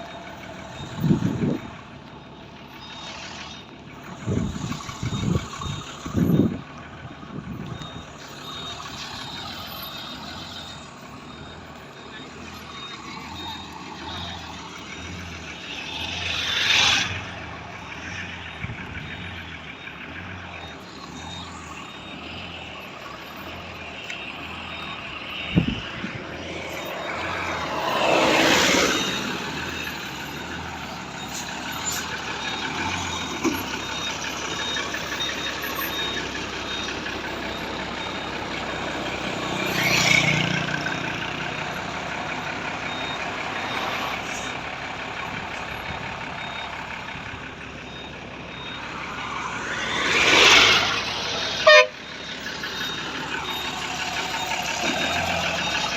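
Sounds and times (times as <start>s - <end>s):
heavy truck engines running: 0.0s - 55.9s.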